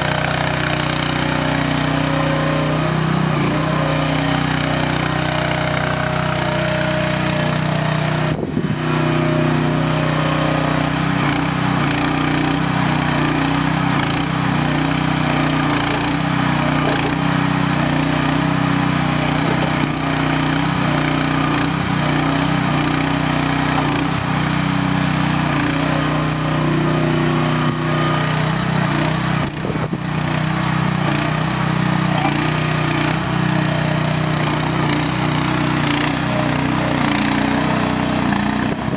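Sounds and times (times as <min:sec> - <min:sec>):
mini excavator engine running: 0:00.0 - 0:38.9.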